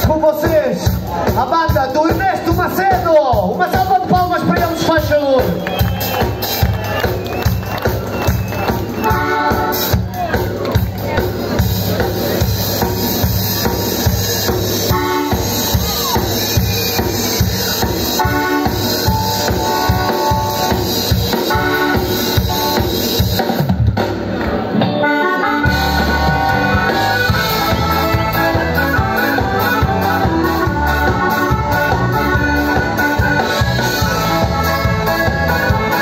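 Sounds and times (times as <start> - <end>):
live band playing: 0.0 - 36.0.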